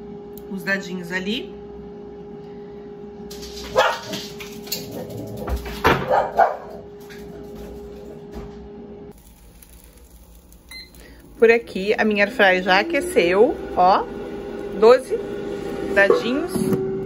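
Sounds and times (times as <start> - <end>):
appliance hum: 0.0 - 17.0.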